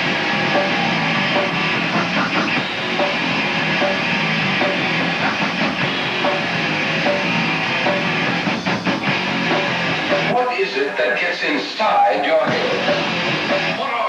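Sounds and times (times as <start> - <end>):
drum kit: 0.0 - 10.4, 12.4 - 14.0
electric guitar: 0.0 - 10.4, 12.4 - 13.9.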